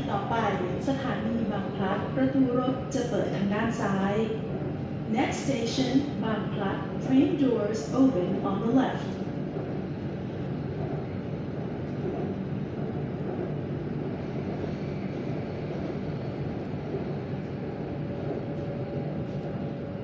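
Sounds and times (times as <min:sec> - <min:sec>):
metro train wheels rumbling: 0:00.0 - 0:20.0.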